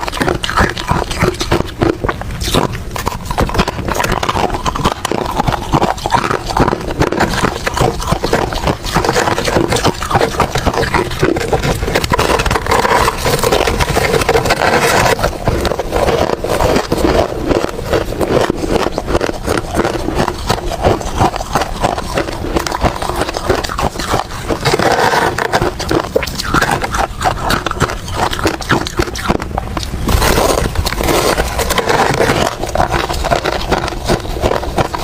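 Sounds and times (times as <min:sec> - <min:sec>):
chewing ice crunches: 0:00.0 - 0:35.0.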